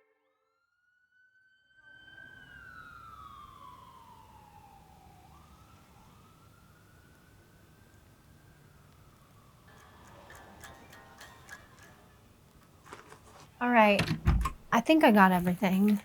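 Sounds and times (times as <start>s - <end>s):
faint siren wailing: 1.8s - 15.9s.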